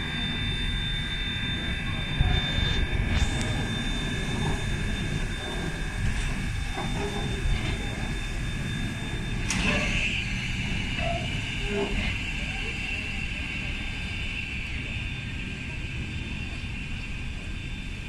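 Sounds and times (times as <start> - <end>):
steam hissing: 0.0 - 17.0
steady whine: 0.0 - 18.0.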